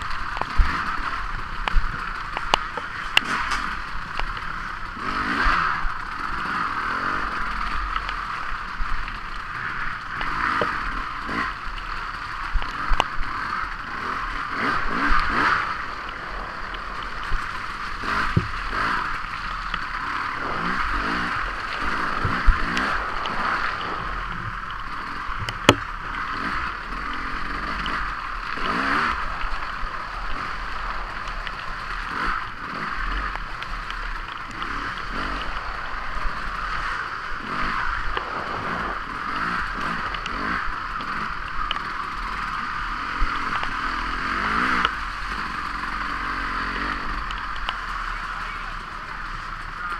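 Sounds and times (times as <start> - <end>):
bike rattling and scraping: 0.0 - 49.9
dirt bike engine revving: 0.0 - 49.9.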